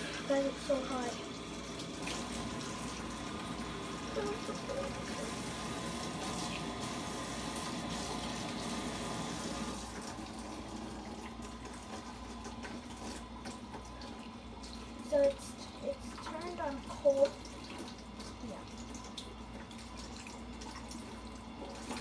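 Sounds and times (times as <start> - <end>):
water running from a tap: 0.0 - 22.0.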